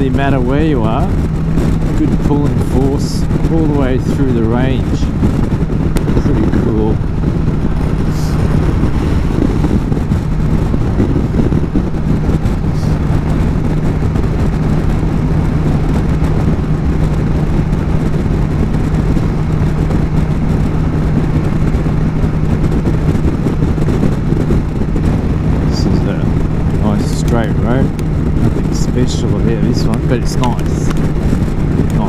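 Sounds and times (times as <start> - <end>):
motorcycle engine cruising: 0.0 - 32.0
wind rush on microphone: 0.0 - 32.0.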